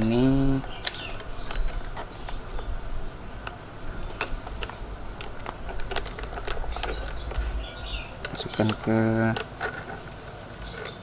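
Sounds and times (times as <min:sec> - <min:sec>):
low steady hum: 0:00.0 - 0:11.0
metal parts clicking and knocking: 0:00.0 - 0:11.0.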